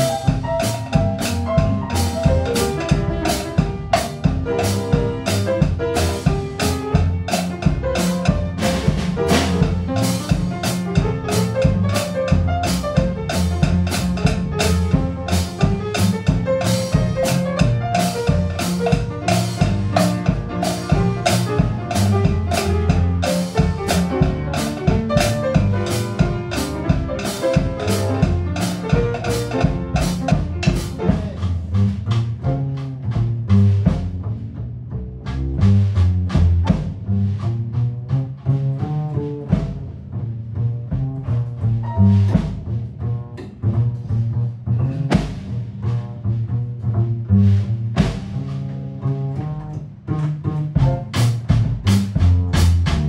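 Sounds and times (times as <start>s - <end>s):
double bass: 0.0s - 53.0s
drum kit swing beat: 0.0s - 53.0s
piano playing jazz: 0.0s - 53.0s.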